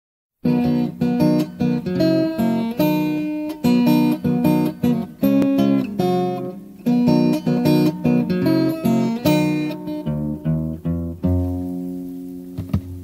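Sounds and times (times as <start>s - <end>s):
acoustic guitar chords: 0.4s - 13.0s.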